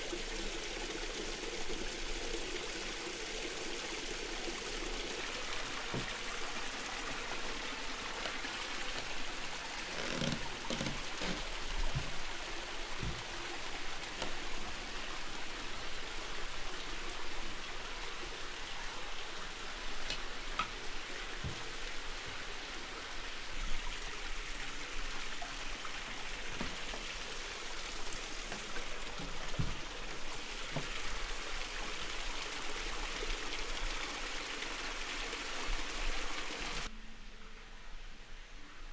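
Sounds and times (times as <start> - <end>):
running water: 0.0 - 36.9.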